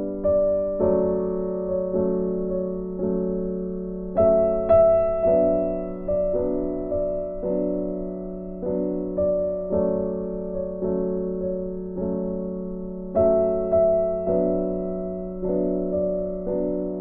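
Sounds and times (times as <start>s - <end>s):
slow piano tune: 0.0s - 17.0s.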